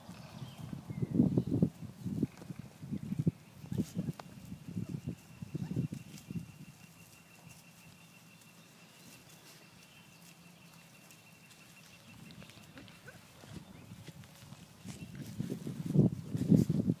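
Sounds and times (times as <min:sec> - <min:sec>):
puppies rustling on grass: 0:00.0 - 0:17.0.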